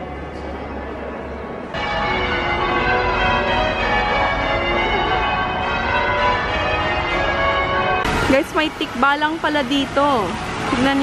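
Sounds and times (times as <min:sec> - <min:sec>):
church bells ringing: 0:01.7 - 0:11.0.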